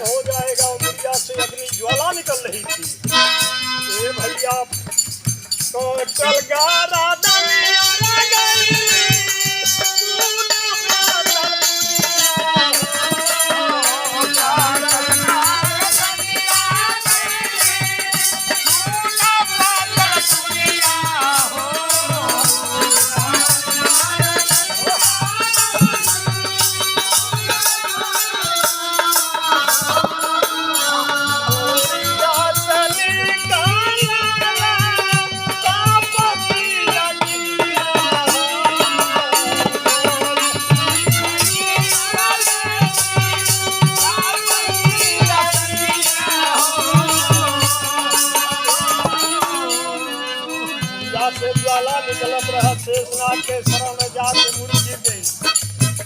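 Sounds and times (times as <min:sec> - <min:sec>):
folk melody singing: 0:00.0 - 0:56.0.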